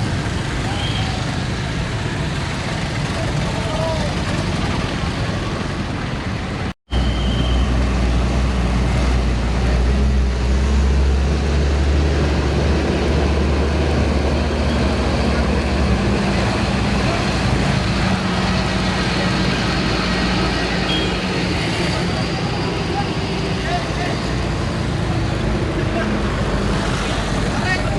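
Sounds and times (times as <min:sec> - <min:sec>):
road traffic: 0:00.0 - 0:27.9
truck diesel engine drone: 0:01.3 - 0:27.9.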